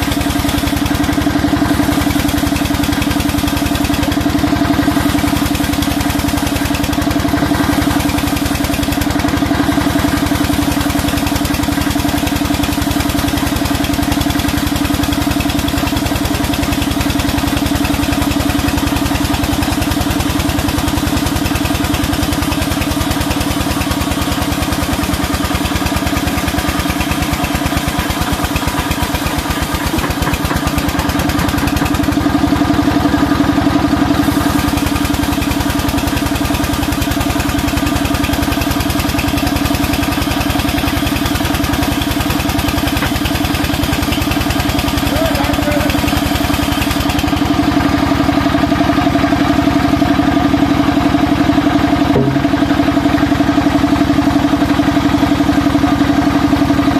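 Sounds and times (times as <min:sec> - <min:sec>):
sawmill droning: 0:00.0 - 0:56.9.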